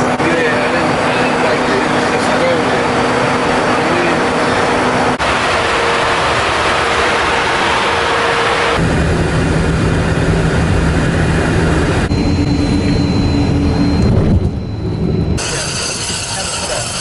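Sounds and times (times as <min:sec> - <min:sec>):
jet engine roar and whine: 0:00.0 - 0:17.0.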